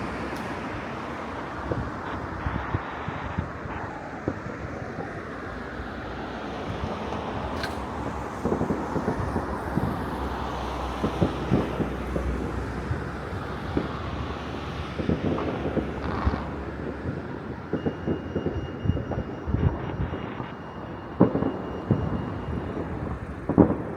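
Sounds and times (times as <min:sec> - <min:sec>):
distant fireworks bangs: 0:00.0 - 0:23.9.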